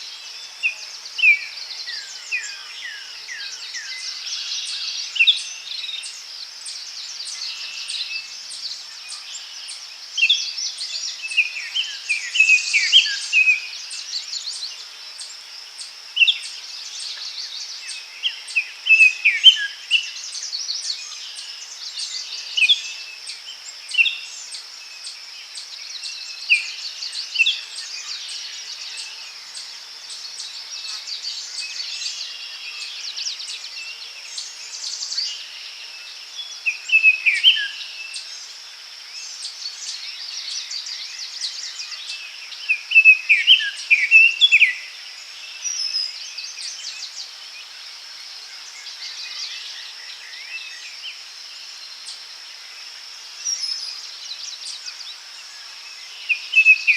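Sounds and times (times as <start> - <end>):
birds chirping and singing: 0.0 - 38.5, 39.1 - 52.3, 53.3 - 56.9.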